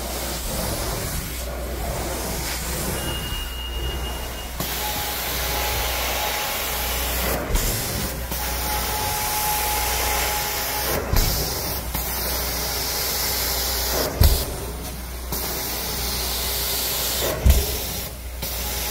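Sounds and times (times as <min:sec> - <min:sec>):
carpet extractor hiss: 0:00.0 - 0:18.9.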